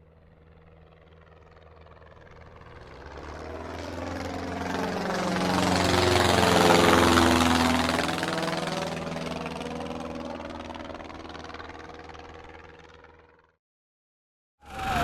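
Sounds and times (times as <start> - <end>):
paramotor engine and propeller: 0.0 - 13.6, 14.6 - 15.0.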